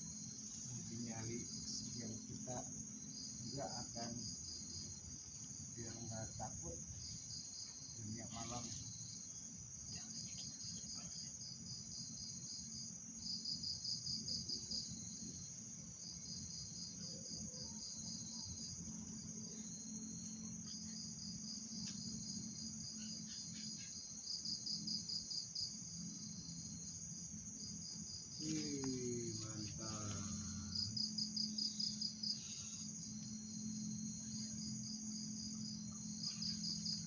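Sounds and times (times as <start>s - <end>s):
crickets trilling and chirping: 0.0s - 37.0s.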